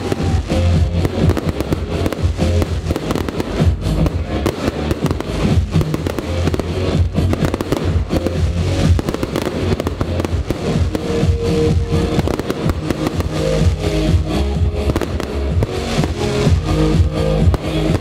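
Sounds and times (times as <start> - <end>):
fireworks bursting and crackling: 0.0 - 18.0
loud music with steady bass: 0.0 - 18.0.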